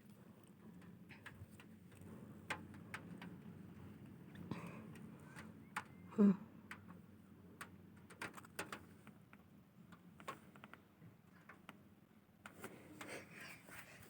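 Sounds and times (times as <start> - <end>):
faint irregular clicks and ticks: 0.0 - 14.0.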